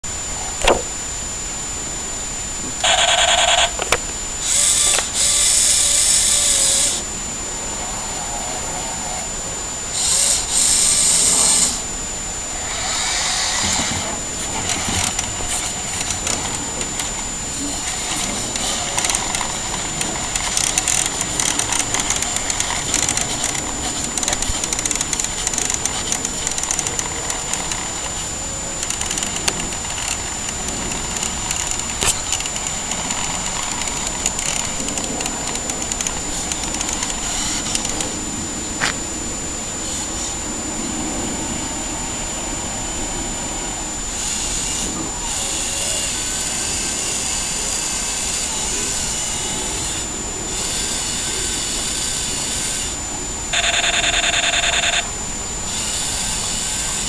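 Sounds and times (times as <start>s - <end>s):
thin high whine: 0.0s - 57.0s
buzzy pulsing electronic bursts: 0.1s - 57.0s.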